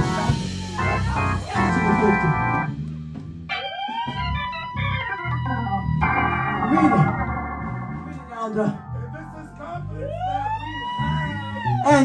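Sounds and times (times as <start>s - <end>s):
organ playing chords: 0.0s - 12.0s.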